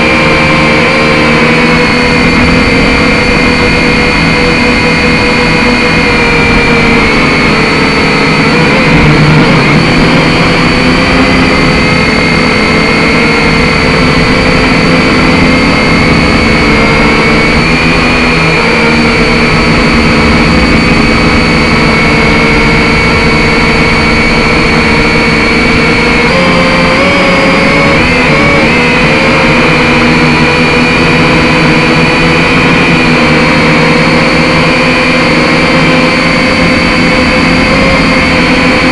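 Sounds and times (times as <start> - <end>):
drone motors whining: 0.0 - 38.9
steady rushing noise: 0.0 - 38.9.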